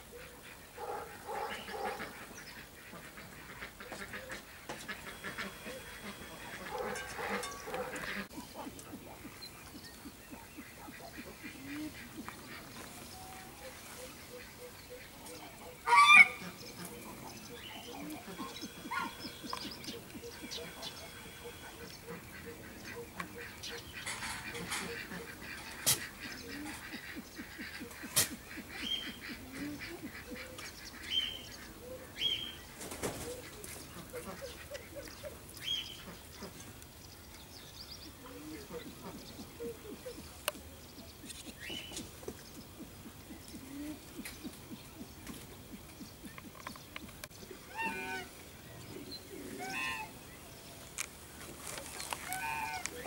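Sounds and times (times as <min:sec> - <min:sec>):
farm birds calling: 0:00.0 - 0:53.0.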